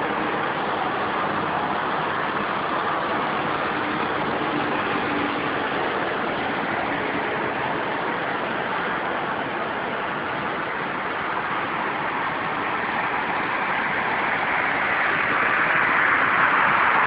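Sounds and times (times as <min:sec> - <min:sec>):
traffic hum of idling cars: 0:00.0 - 0:17.0.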